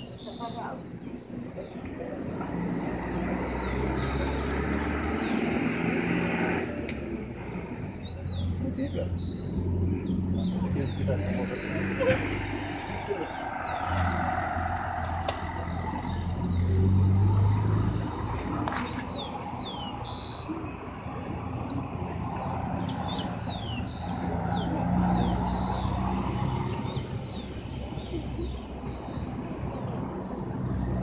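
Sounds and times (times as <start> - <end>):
birds chirping: 0.0 - 31.0
traffic engine hum: 0.0 - 31.0.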